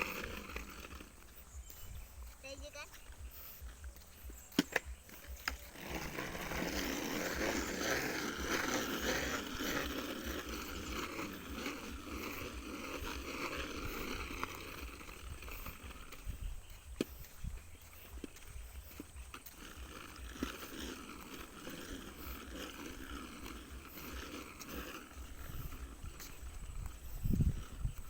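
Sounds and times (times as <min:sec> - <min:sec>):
scooter clicks: 0:00.0 - 0:28.0
scooter wheels rolling on pavement: 0:00.0 - 0:28.0.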